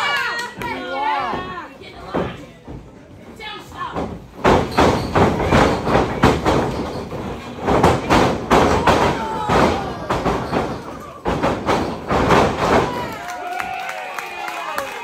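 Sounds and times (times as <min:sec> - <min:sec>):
wrestlers thudding and slapping: 0:00.2 - 0:13.3.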